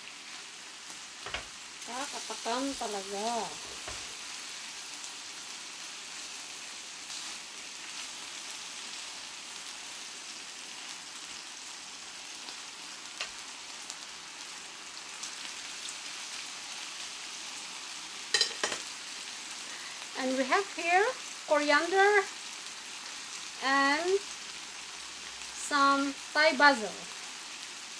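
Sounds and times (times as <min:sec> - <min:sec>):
pork sizzling in a skillet: 0:00.0 - 0:27.9.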